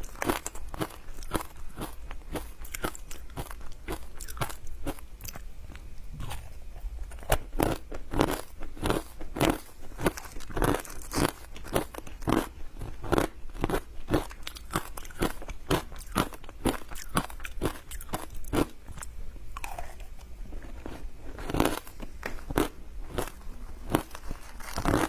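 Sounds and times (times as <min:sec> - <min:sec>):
ice being chewed: 0:00.0 - 0:25.0.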